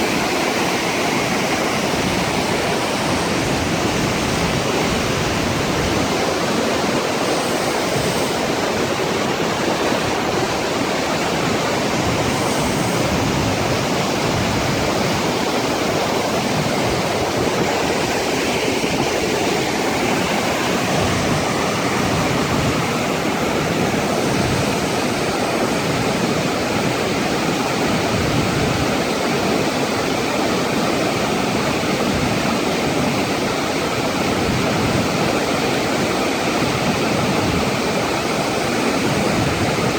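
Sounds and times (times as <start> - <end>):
water rushing down a waterfall: 0.0 - 39.9.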